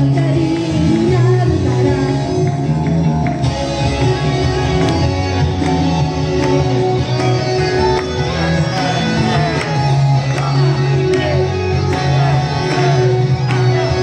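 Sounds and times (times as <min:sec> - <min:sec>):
pop song over sound system: 0:00.0 - 0:14.0.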